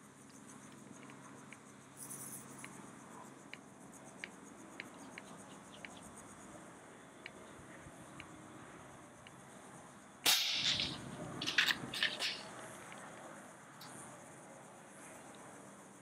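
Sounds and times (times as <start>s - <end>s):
cicada chorus buzzing: 0.0s - 16.0s.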